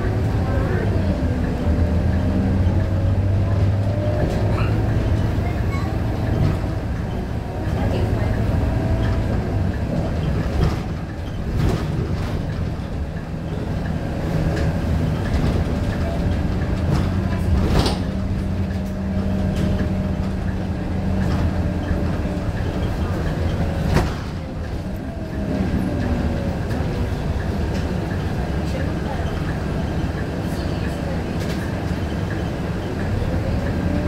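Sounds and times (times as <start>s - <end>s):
bus body rattling: 0.0s - 34.0s
bus diesel engine drone: 0.0s - 34.0s.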